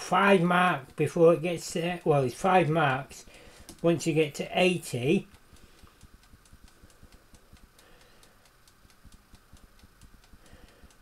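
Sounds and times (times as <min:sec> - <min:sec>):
clockwork timer ticking: 0:00.0 - 0:11.0.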